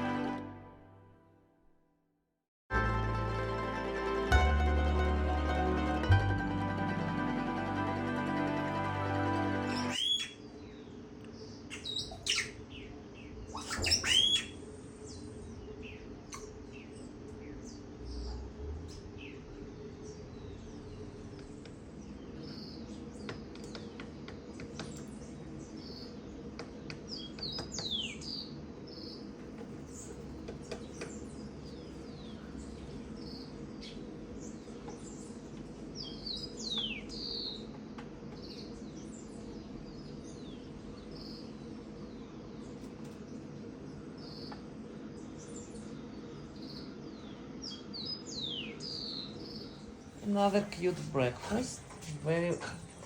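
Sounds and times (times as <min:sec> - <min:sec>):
songbirds chirping: 0:03.3 - 0:53.0.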